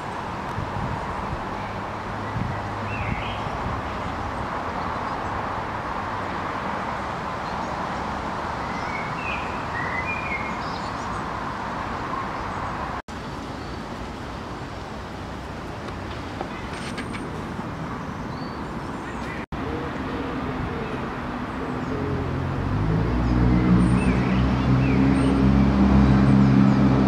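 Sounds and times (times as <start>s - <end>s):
distant traffic: 0.0s - 27.0s.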